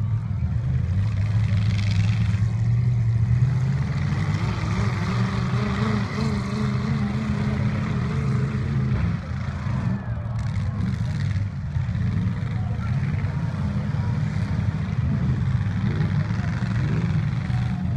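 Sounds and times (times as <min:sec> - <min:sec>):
truck engines droning and revving: 0:00.0 - 0:17.9.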